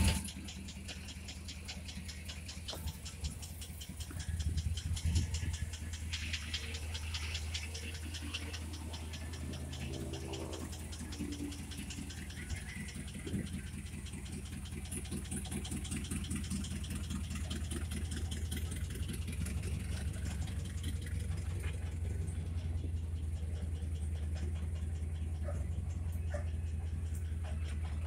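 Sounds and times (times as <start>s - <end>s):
fast even engine ticking: 0.0s - 28.0s
truck engine idling: 0.0s - 28.0s.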